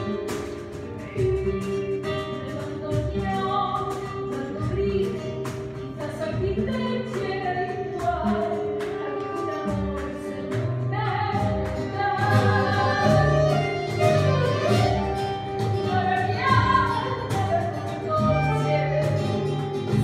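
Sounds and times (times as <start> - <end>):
acoustic guitar: 0.0 - 20.0
person singing: 0.8 - 20.0.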